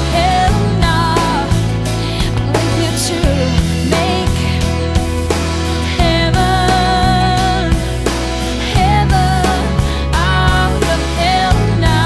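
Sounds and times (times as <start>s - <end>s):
guitar: 0.0s - 12.0s
steady drum beat: 0.0s - 12.0s.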